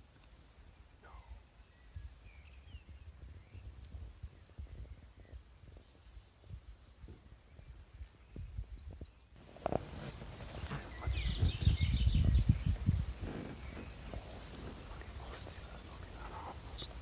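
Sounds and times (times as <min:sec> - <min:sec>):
songbird calls: 0:00.0 - 0:17.0
low microphone rumble: 0:01.0 - 0:17.0.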